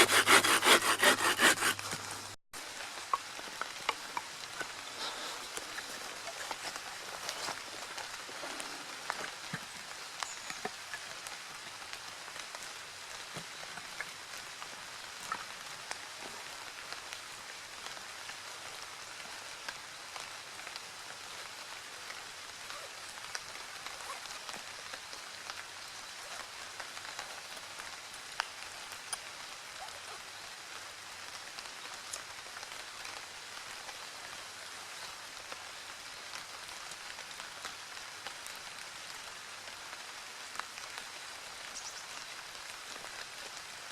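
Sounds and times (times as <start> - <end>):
steady rain hiss: 1.8 - 43.9.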